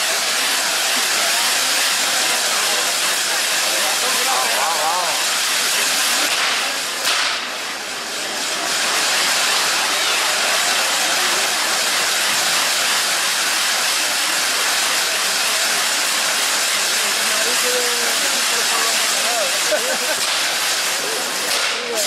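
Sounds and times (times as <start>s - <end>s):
firework wheels hissing: 0.0s - 22.0s.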